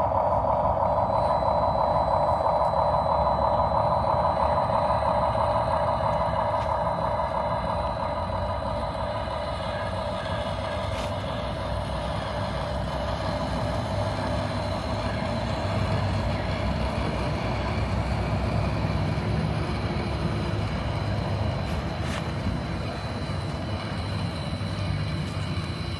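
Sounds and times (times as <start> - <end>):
high whine: 0.0 - 25.9
toy truck engine hum: 0.0 - 25.9.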